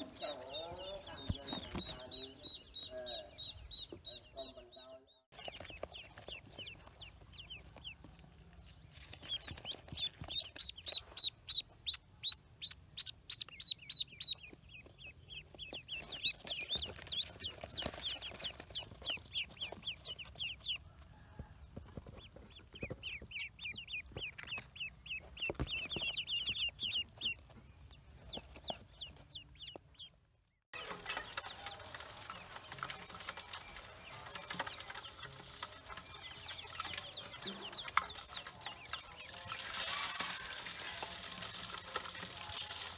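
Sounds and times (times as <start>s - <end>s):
ducklings peeping: 0.0s - 42.9s.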